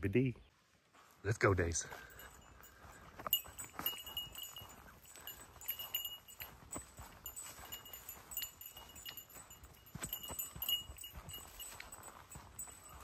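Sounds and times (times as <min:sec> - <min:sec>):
footsteps through dry grass: 0:00.5 - 0:13.0
high metallic jingles: 0:01.7 - 0:13.0.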